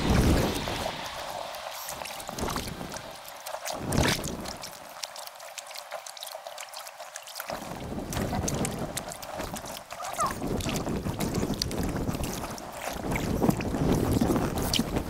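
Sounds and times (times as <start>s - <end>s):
wind on microphone: 0.0s - 5.0s, 7.5s - 15.0s
paddle splashes: 0.0s - 15.0s.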